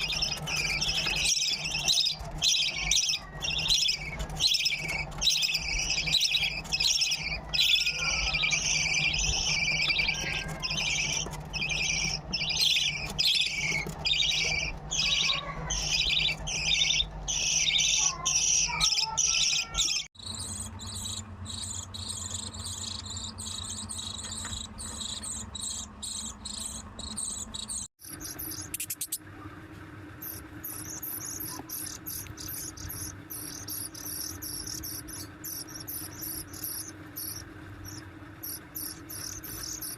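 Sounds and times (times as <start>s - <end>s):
budgerigar chicks begging calls: 0.0s - 29.2s, 30.2s - 39.9s.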